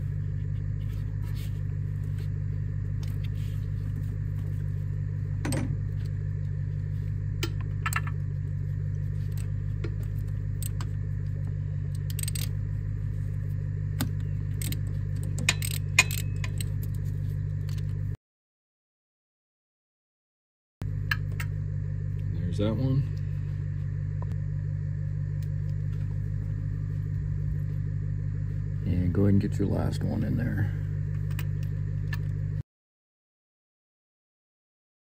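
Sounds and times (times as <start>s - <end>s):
low hum: 0.0s - 18.2s, 20.8s - 32.6s.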